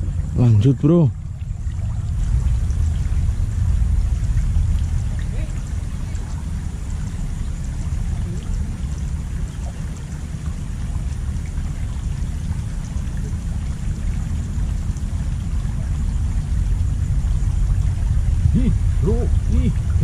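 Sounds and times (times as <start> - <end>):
water rushing in ditch: 0.0 - 20.0.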